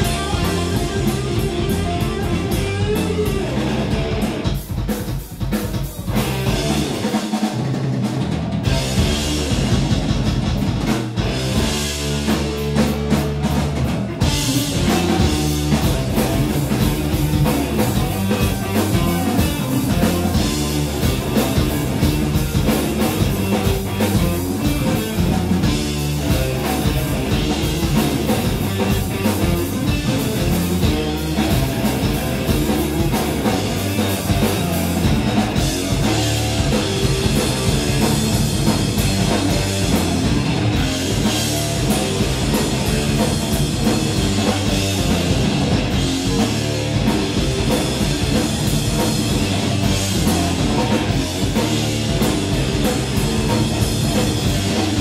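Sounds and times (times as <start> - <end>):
drum kit: 0.0 - 55.0
electric bass: 0.0 - 55.0
loud electric guitar: 0.0 - 55.0.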